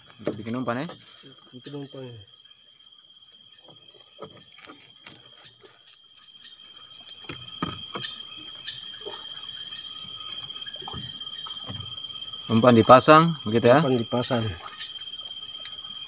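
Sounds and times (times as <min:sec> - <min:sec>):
night insects buzzing: 0:00.0 - 0:16.0.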